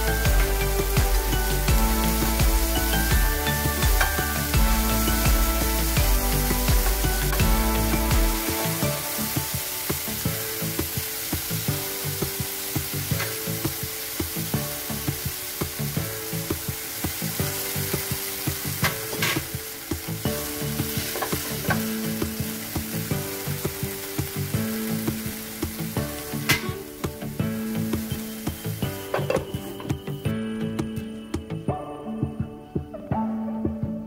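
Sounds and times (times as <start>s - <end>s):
vegetables sizzling in frying pan: 0.0s - 30.3s.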